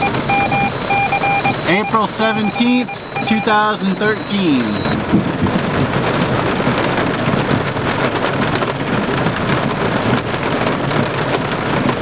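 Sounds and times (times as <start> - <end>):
hail ticking: 0.0 - 12.0
heavy rain: 0.0 - 12.0.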